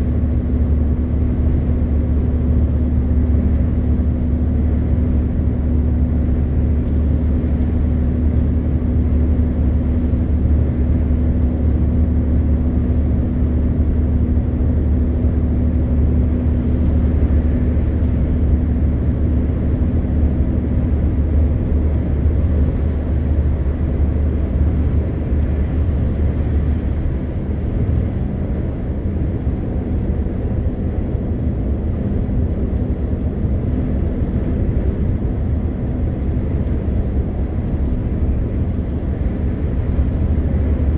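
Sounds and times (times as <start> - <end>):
road noise: 0.0 - 40.9
truck diesel engine drone: 0.0 - 40.9.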